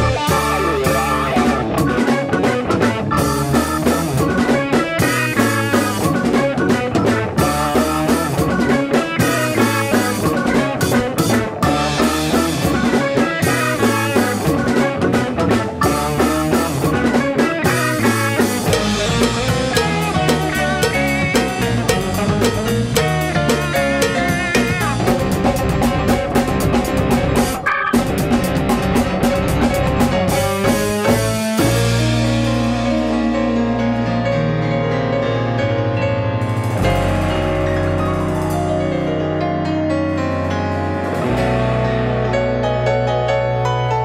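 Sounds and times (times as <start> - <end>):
live rock band playing: 0.0 - 44.0.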